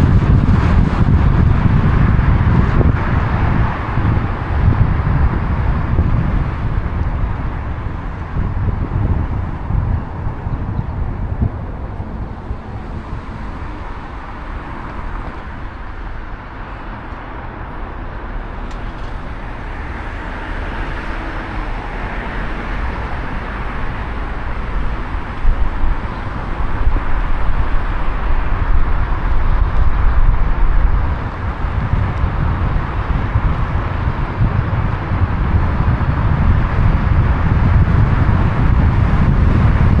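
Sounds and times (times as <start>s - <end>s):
traffic rumble: 0.0s - 40.0s
wind on microphone: 0.0s - 40.0s.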